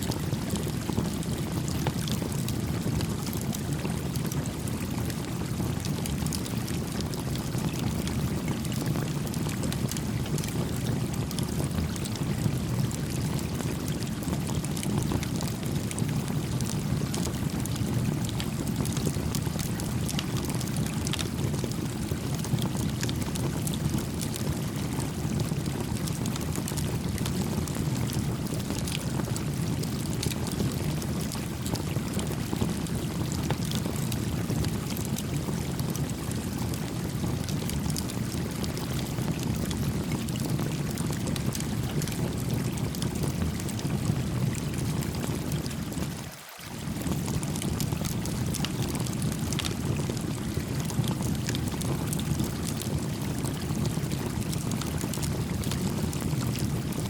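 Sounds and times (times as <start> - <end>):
campfire crackling and popping: 0.1 - 46.0, 46.9 - 57.0.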